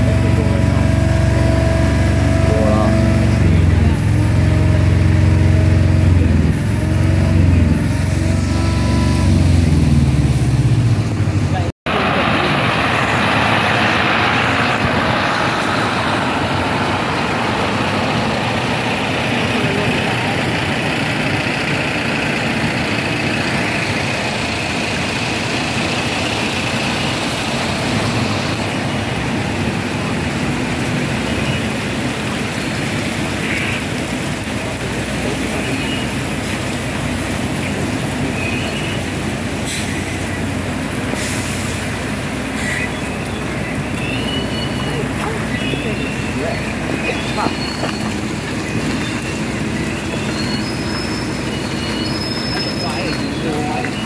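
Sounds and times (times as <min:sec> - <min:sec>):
heavy tyres rolling: 0:00.0 - 0:54.0
truck diesel engine rumble: 0:00.0 - 0:54.0.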